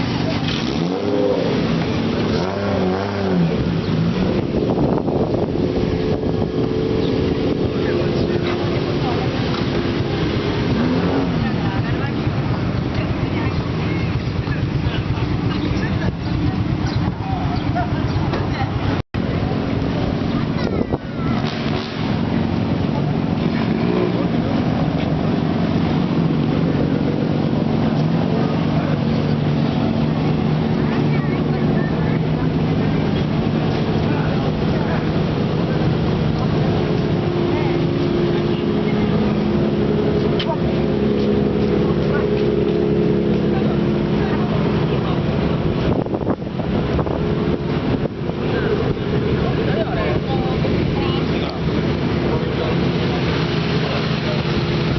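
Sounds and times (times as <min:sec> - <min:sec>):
car engine revving loudly: 0:00.0 - 0:16.9, 0:18.4 - 0:54.9.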